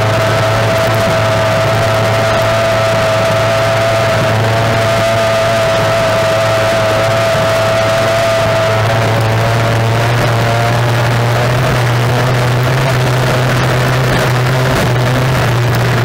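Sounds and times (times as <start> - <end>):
outboard engine running fast: 0.0 - 16.0
wind and water rushing: 0.0 - 16.0.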